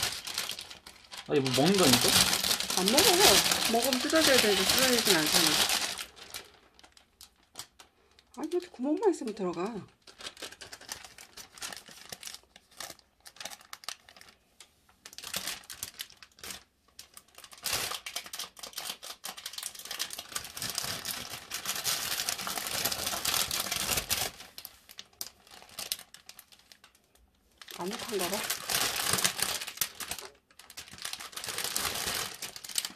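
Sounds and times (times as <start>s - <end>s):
plastic bag crinkling: 0.0s - 32.9s.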